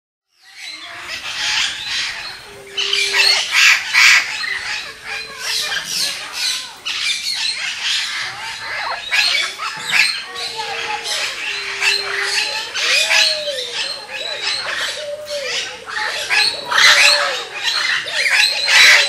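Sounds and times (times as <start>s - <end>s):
parrots squawking: 0.8s - 19.0s.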